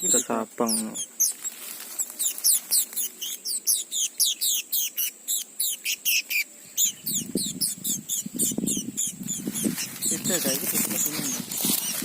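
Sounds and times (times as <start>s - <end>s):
birds giving sharp high chirps: 0.0s - 12.0s.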